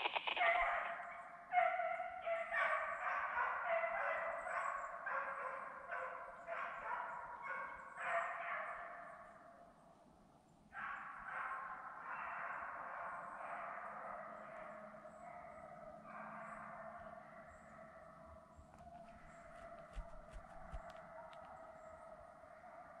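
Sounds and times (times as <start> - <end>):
hounds baying: 0.4 - 8.7, 10.8 - 23.0.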